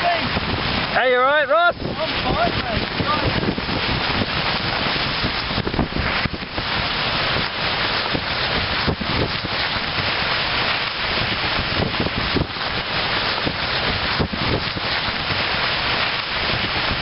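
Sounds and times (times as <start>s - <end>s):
wind buffeting pops: 0.0s - 17.0s
wind rushing over microphone: 0.0s - 17.0s.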